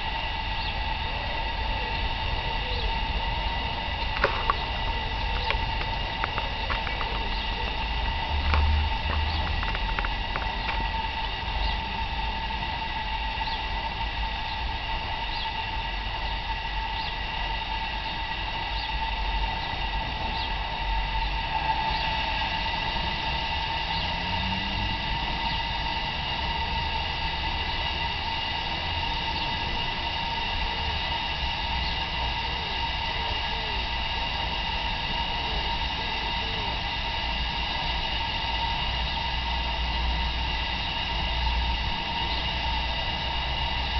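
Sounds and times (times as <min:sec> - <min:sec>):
steam hissing: 0:00.0 - 0:43.9.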